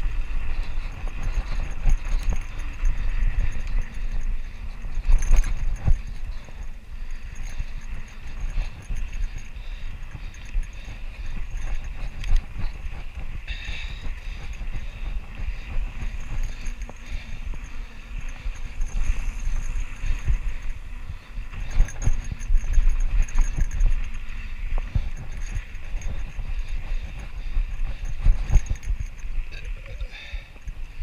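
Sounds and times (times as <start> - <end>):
bike rattling over bumps: 0.0 - 31.0
bike tyres on stony trail: 0.0 - 31.0
wind rumble on microphone: 0.0 - 31.0.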